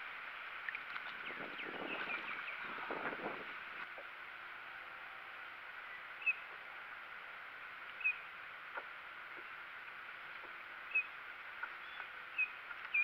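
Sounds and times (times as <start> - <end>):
moving water: 0.0 - 13.0.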